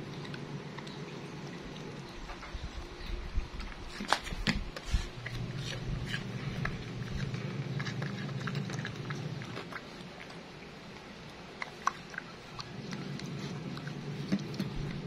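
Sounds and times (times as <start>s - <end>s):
dog chewing wetly: 0.0s - 15.0s
low steady hum: 0.0s - 15.0s.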